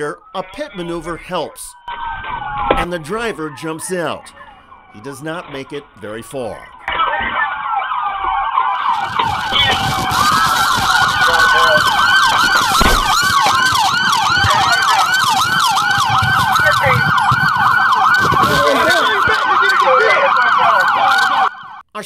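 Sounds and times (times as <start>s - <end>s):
police siren fast yelp: 0.0s - 21.8s
police siren wailing: 0.0s - 21.8s.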